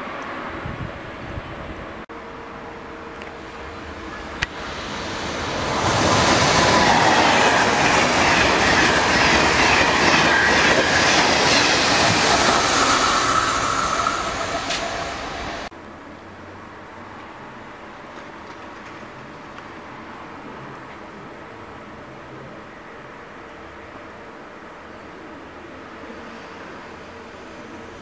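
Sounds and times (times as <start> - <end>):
high-speed train passing: 0.0 - 15.7, 16.4 - 28.0.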